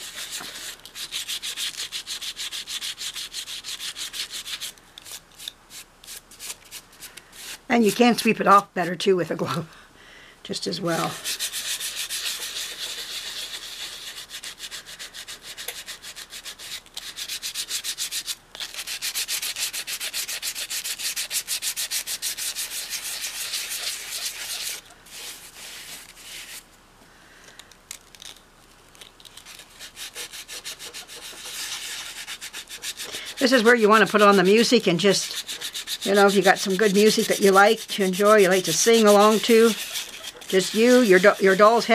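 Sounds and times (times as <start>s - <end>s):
hand sanding strokes: 0.0s - 8.3s, 10.9s - 26.7s, 29.3s - 41.9s.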